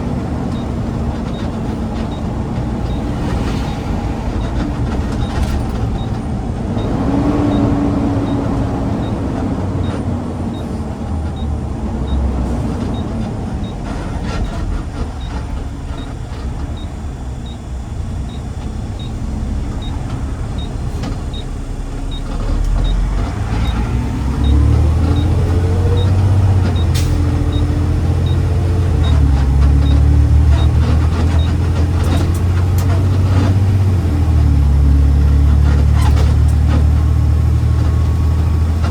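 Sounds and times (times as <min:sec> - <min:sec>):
garbage truck engine running: 0:00.0 - 0:38.9.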